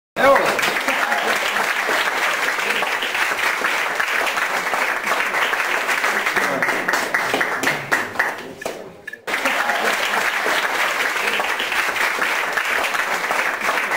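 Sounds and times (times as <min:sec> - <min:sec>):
audience applauding: 0:00.2 - 0:13.9.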